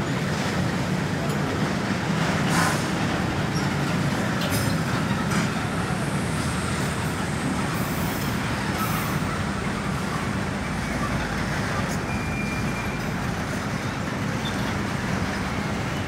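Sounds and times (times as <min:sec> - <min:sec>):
tank wagons rumbling slowly: 0:00.0 - 0:16.0.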